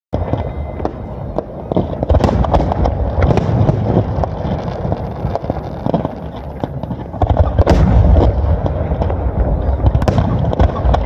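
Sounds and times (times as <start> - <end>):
fireworks bangs and crackles: 0.1 - 11.0.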